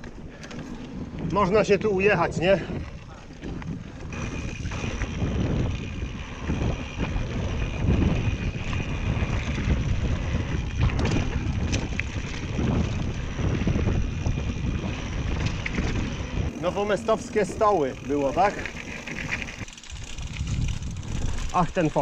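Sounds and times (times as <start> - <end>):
bike clicks and rattles: 0.0 - 22.0
wind buffeting microphone: 0.0 - 22.0
tyres rumbling over dirt: 3.9 - 22.0.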